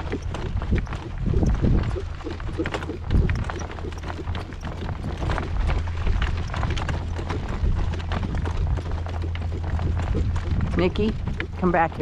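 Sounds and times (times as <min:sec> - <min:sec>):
horse hoofbeats: 0:00.0 - 0:12.0
wind rumbling on microphone: 0:00.0 - 0:12.0.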